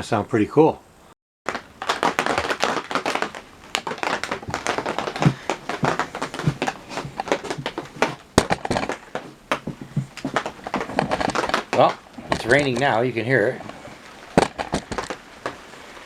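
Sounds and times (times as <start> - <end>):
rain on a roof: 1.5 - 16.0.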